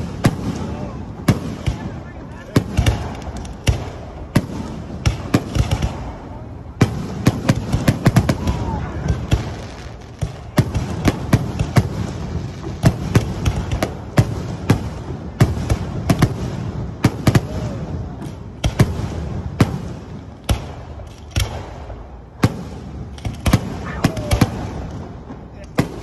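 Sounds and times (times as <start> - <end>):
fireworks bangs and pops: 0.0 - 26.0.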